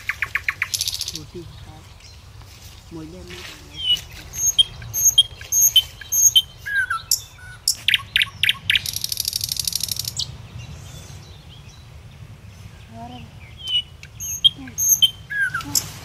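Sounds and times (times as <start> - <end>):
bird trill: 0.0 - 2.2, 3.8 - 11.8, 13.4 - 16.0
birds chirping: 0.0 - 16.0.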